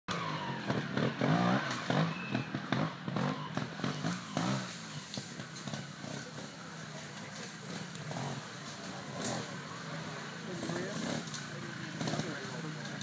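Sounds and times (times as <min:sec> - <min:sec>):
motorcycle engine revving in blips: 0:00.1 - 0:13.0.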